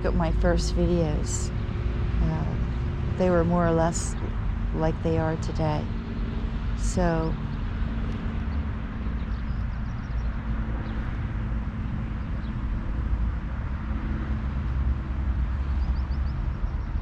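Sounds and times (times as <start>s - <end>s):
constant hum: 0.0s - 17.0s
engine rumble: 0.0s - 17.0s.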